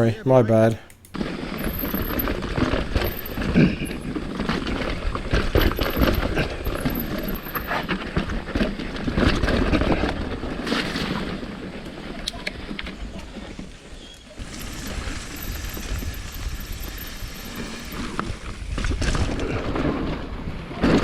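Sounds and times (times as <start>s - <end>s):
bike clicking and rattling: 0.6s - 21.0s
bike tyres rumbling over dirt: 1.1s - 21.0s.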